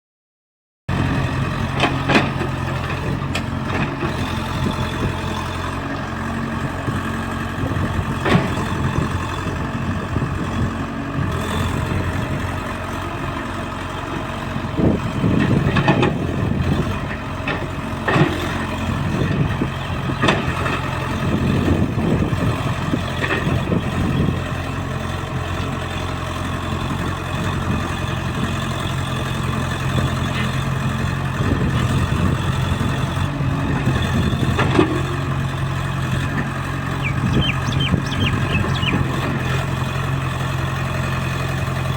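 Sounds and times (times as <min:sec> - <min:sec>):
excavator diesel engine running: 0:00.9 - 0:41.9.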